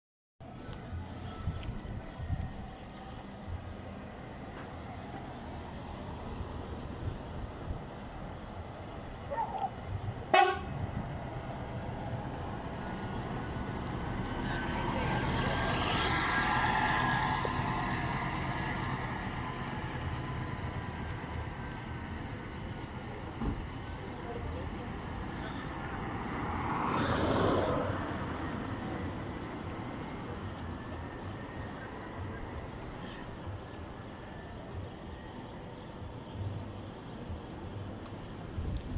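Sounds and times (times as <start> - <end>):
road noise: 0.4 - 38.9.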